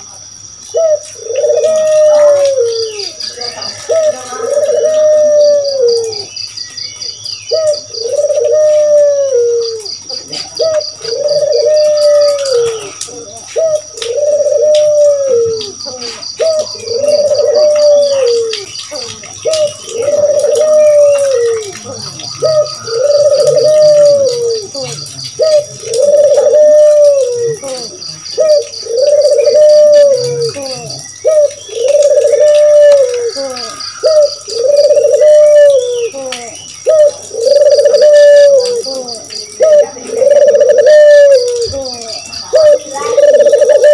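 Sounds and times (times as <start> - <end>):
doves cooing: 0.0 - 43.9
faint chirps: 0.0 - 43.9.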